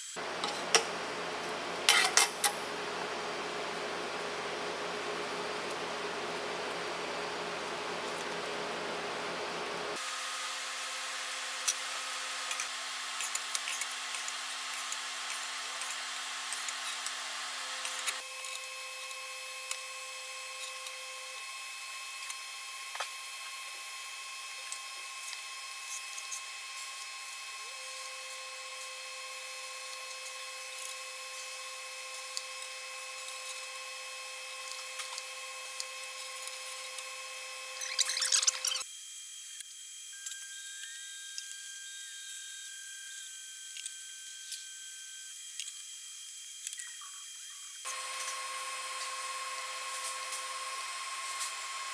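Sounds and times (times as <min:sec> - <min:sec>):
shop hum with faint whine: 0:00.0 - 0:51.9.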